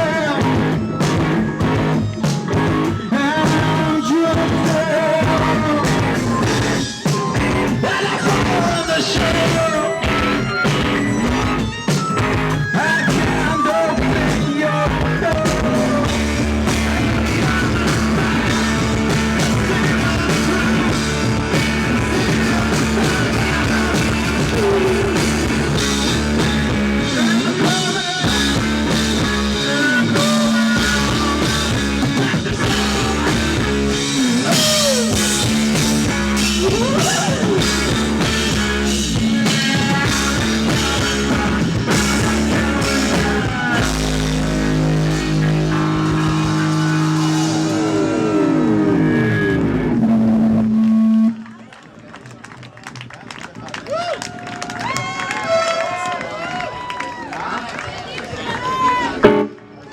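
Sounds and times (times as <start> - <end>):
rock band playing live: 0.0 - 51.4, 59.2 - 59.9.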